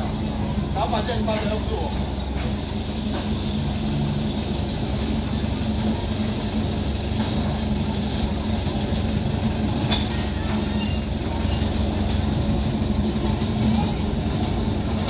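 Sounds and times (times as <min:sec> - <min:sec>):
mine locomotive humming and rumbling: 0:00.0 - 0:15.0.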